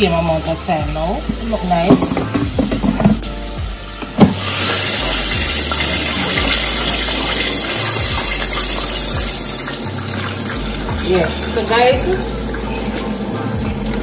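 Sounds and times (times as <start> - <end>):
oil sizzling around frying chicken: 0.0 - 14.0.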